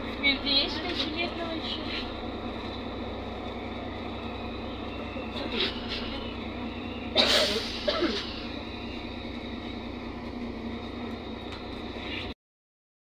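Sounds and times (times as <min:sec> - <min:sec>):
bus diesel engine hum: 0:00.0 - 0:12.4
road noise: 0:00.0 - 0:12.4.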